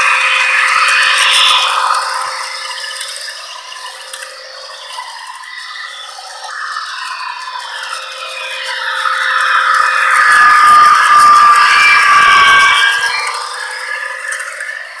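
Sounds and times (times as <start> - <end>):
model train whirring and rattling: 0.0 - 15.0.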